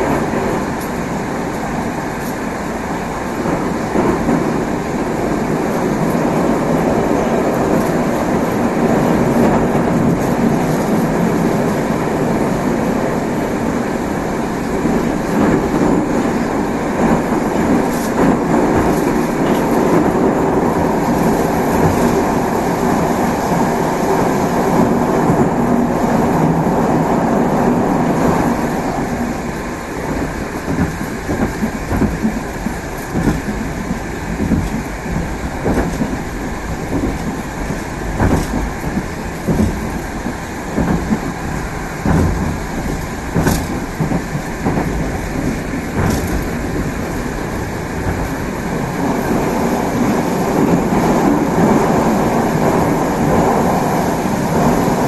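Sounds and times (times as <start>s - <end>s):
train wheels rumbling on rail: 0.0s - 55.0s
wheels clicking over rail joints: 0.0s - 55.0s.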